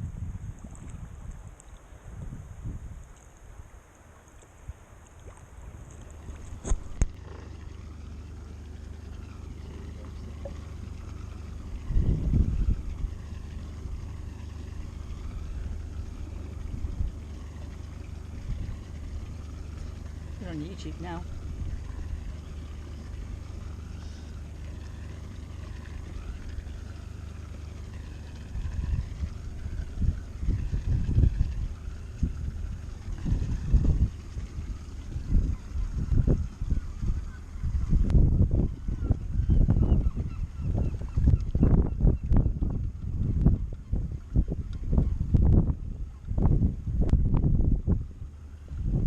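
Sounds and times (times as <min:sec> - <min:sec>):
wind buffeting microphone: 0:00.0 - 0:03.2, 0:05.5 - 0:49.0
boat engines droning: 0:03.2 - 0:49.0.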